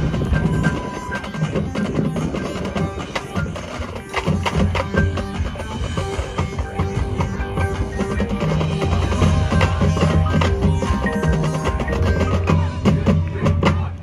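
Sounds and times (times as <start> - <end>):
mallet percussion: 0.0 - 13.9
drums: 0.0 - 14.0
marching band playing: 0.0 - 14.0.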